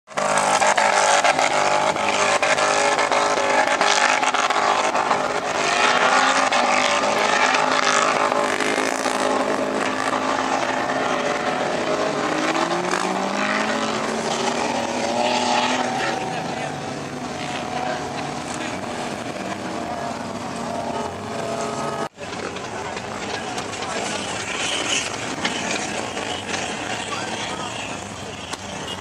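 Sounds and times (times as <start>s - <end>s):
engine revving high: 0.1s - 29.0s.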